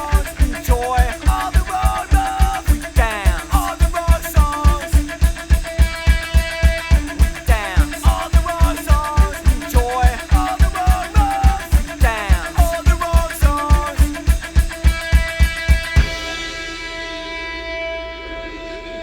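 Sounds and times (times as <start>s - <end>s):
fast drum beat: 0.0s - 17.1s.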